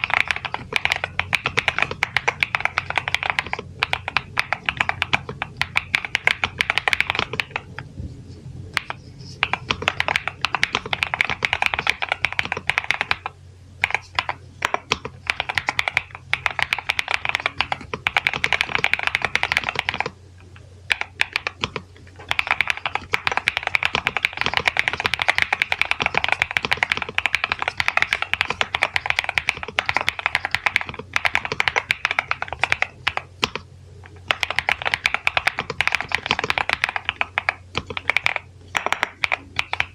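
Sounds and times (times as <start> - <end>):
mechanical keyboard typing: 0.0 - 7.8, 8.8 - 20.2, 20.9 - 39.9.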